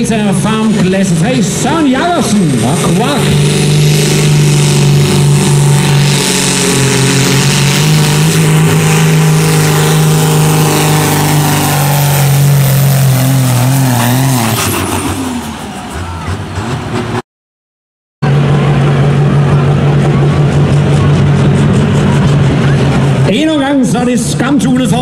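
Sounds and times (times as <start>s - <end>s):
tractor diesel engine under load: 0.0s - 17.2s, 18.2s - 25.0s.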